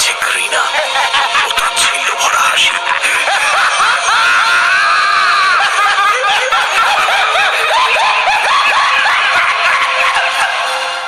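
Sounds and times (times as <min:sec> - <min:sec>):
man laughing frenziedly: 0:00.0 - 0:11.0.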